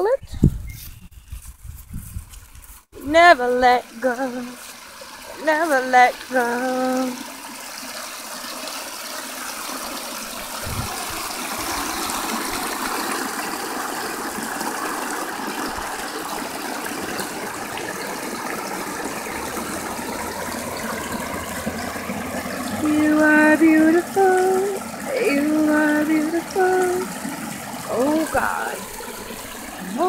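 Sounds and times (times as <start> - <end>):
small waterfall splashing: 3.2 - 30.0.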